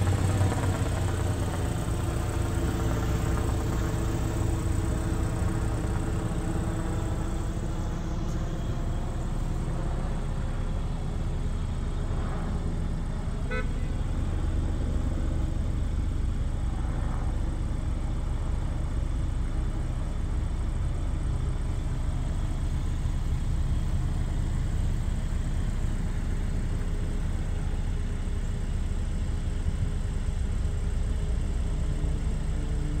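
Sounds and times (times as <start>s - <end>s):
car engine humming: 0.0s - 33.0s.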